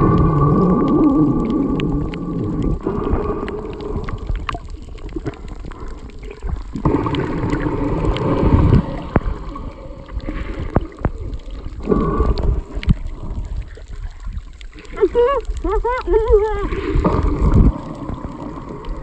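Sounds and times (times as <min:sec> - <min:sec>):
sharp clicks and pops: 0:00.0 - 0:19.0
underwater rumbling and gurgling: 0:00.0 - 0:19.0.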